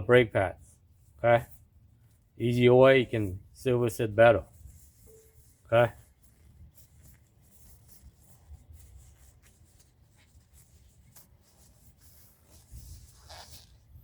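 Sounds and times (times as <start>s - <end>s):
light clicks and rubbing: 1.4s - 14.0s.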